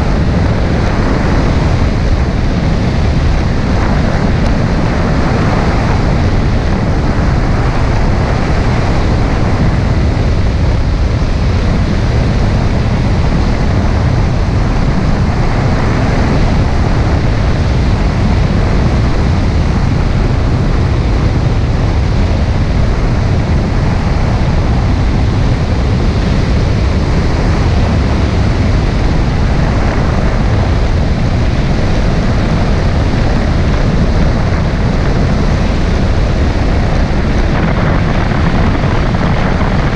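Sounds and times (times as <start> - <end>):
jet ski engine: 0.0 - 39.9
wind buffeting microphone: 0.0 - 39.9.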